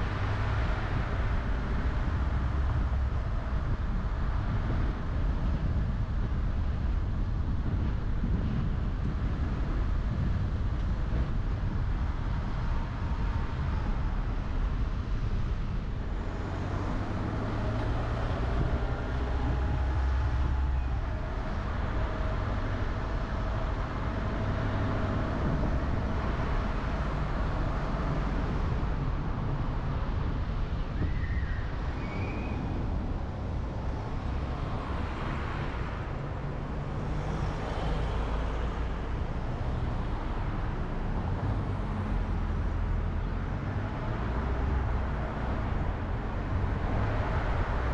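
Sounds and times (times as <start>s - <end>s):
car road and engine noise: 0.0s - 47.9s.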